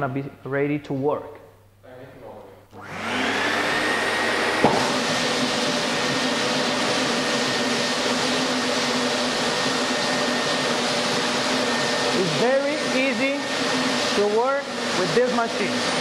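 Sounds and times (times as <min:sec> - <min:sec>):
floor sanding machine running: 0:02.8 - 0:16.0.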